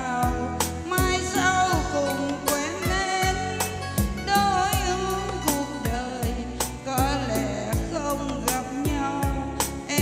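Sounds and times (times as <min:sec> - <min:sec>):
amplified musical accompaniment: 0:00.0 - 0:10.0
woman singing with vibrato: 0:00.0 - 0:10.0.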